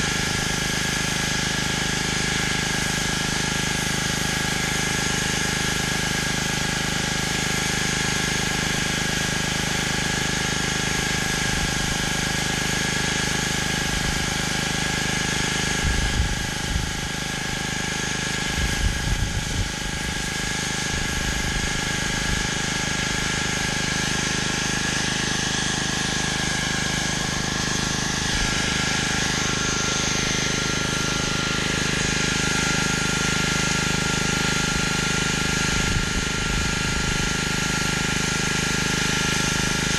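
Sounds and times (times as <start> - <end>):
pressure washer engine running: 0.0 - 39.9
water spray hissing on concrete: 0.0 - 39.9.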